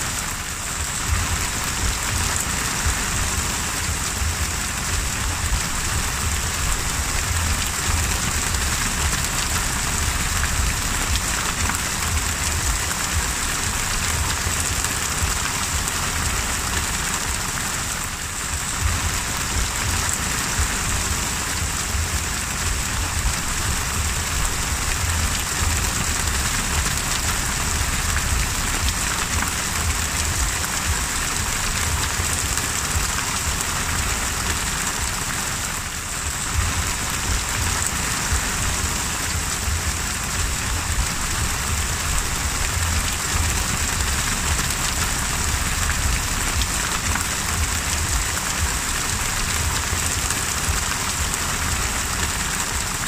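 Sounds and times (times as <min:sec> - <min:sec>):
heavy rain on water: 0:00.0 - 0:53.0
low rumble: 0:00.4 - 0:17.7, 0:18.3 - 0:35.2, 0:36.0 - 0:52.4.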